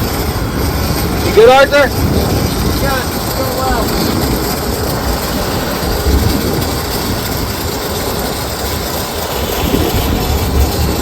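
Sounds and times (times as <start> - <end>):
boat engine rumble: 0.0 - 11.0
rushing water: 0.0 - 11.0
rushing wind: 0.0 - 11.0.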